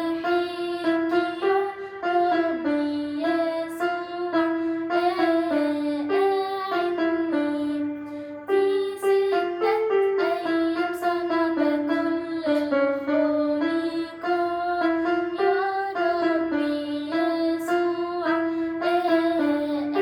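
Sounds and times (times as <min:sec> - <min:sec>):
electronic keyboard: 0:00.0 - 0:20.0
girl singing a hymn: 0:00.0 - 0:20.0.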